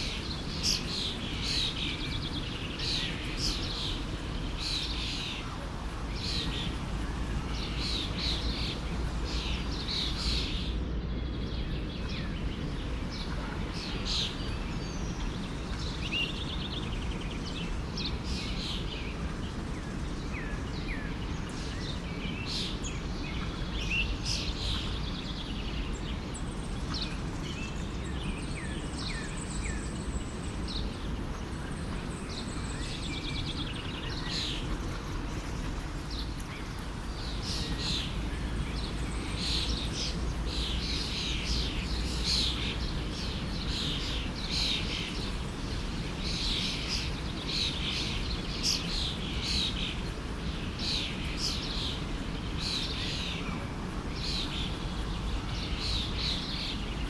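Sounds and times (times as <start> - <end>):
forest stream rushing: 0.0 - 10.9, 11.6 - 57.0
songbirds chirping: 0.0 - 57.0.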